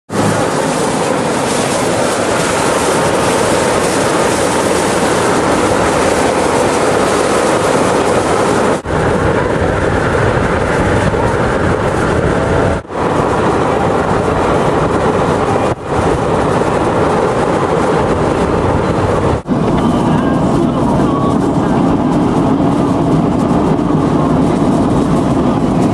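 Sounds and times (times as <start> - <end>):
road and wind noise: 0.0 - 25.9.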